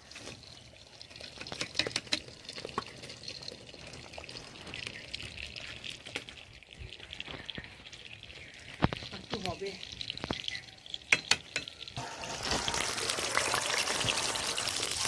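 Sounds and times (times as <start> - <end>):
rice boiling in a pot: 0.0 - 15.0.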